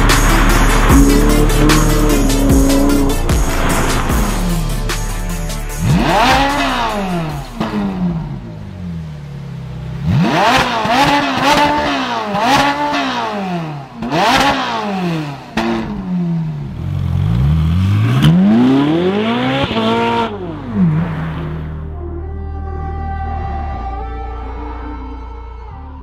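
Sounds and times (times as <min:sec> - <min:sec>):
car engine revving: 0:00.0 - 0:22.2.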